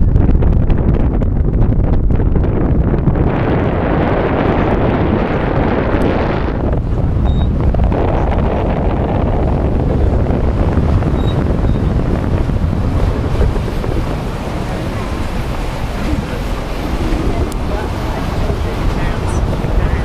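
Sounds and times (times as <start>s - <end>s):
water washing along hull: 0.0s - 20.0s
wind buffeting microphone: 0.0s - 20.0s.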